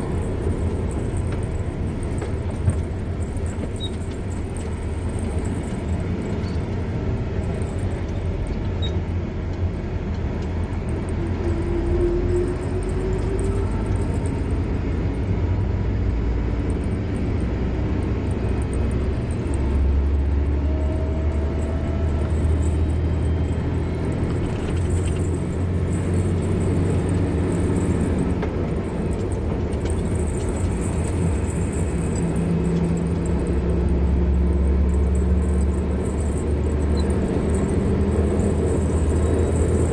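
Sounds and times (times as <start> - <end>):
car engine: 0.0 - 39.9
road rumble: 0.0 - 39.9.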